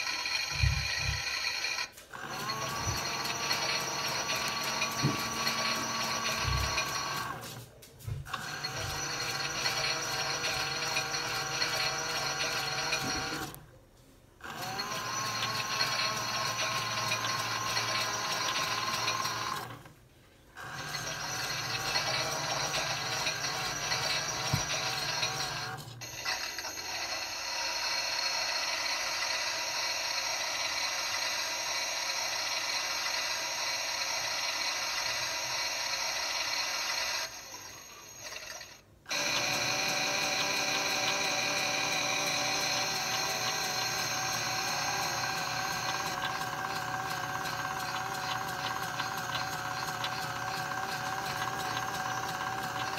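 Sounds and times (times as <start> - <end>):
washing machine drum motor whining: 0.0 - 13.7, 14.4 - 19.9, 20.6 - 52.9.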